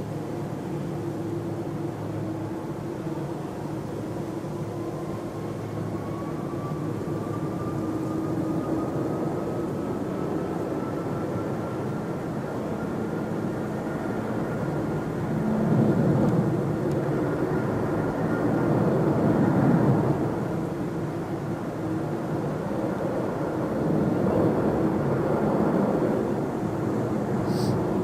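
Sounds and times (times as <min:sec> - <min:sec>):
thin whine rising in pitch: 0:00.0 - 0:26.4
jet engines running loud: 0:00.0 - 0:28.0.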